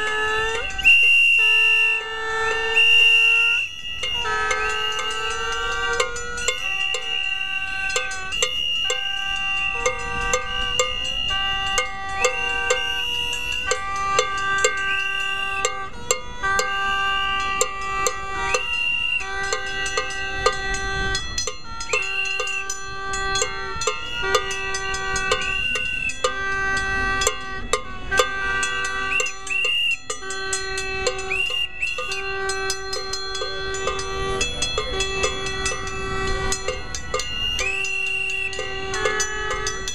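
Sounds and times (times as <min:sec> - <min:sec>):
noisemaker horns: 0:00.0 - 0:39.9
whistles blowing: 0:00.0 - 0:39.9.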